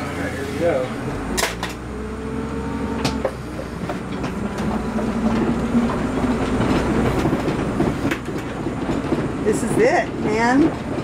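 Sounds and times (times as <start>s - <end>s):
bus engine rumble: 0.0s - 11.0s
rattles and knocks inside bus: 0.0s - 11.0s.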